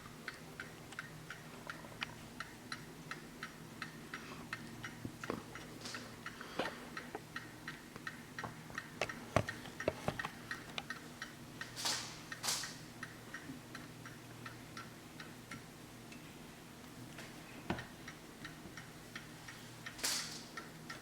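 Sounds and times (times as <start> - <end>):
clock ticking: 0.0 - 17.0, 17.7 - 21.0.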